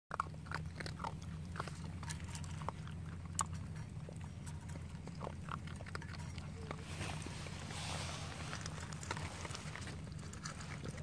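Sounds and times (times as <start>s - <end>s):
puppy crunching dry kibble: 0.1s - 11.0s
low hum: 0.2s - 11.0s.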